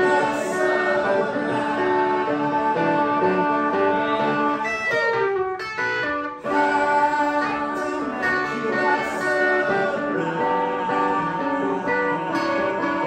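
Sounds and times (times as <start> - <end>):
guitar plucked and strummed: 0.0 - 13.0
man singing: 0.0 - 13.0.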